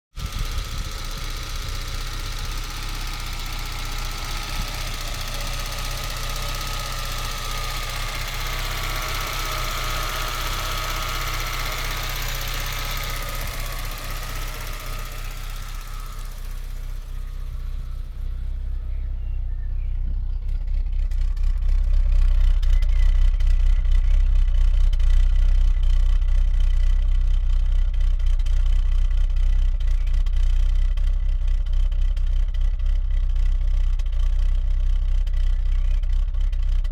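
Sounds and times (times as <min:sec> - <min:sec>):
car engine idling: 0:00.1 - 0:36.9.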